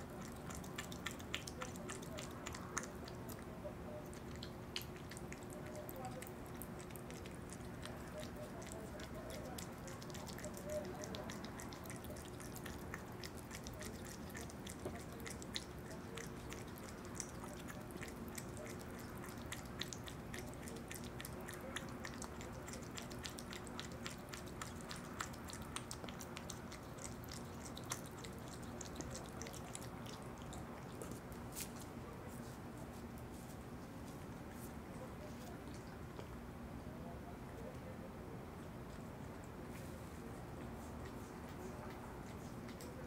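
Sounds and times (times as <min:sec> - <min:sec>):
wet chewing clicks: 0:00.0 - 0:32.0, 0:35.4 - 0:36.4, 0:40.4 - 0:43.0
faint steady hum: 0:00.0 - 0:43.0.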